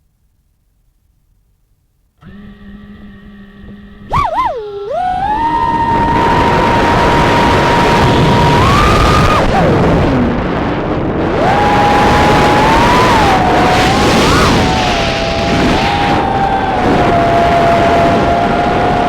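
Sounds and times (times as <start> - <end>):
quadcopter motors whining: 2.2 - 10.1, 11.3 - 19.0.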